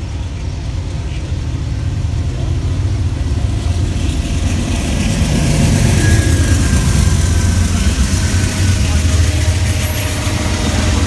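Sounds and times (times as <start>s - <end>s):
diesel locomotive engines rumbling: 0.0s - 11.0s.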